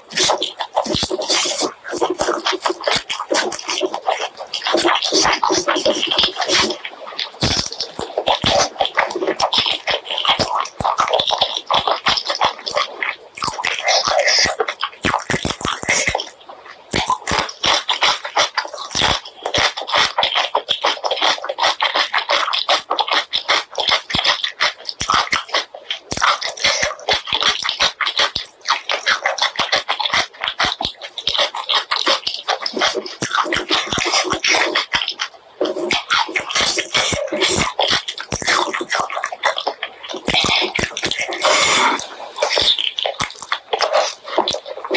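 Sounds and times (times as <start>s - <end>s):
wet chewing and lip smacking: 0.0s - 44.9s.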